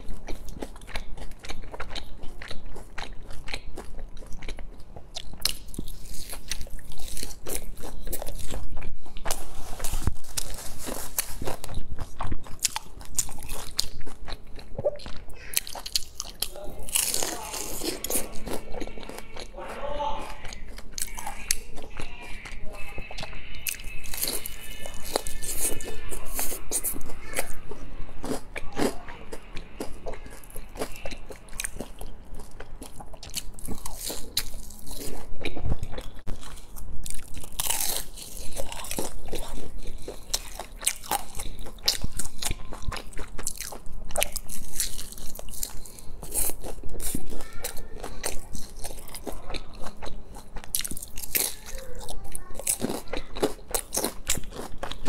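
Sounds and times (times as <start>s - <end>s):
crunchy food chewing: 0.0s - 55.0s.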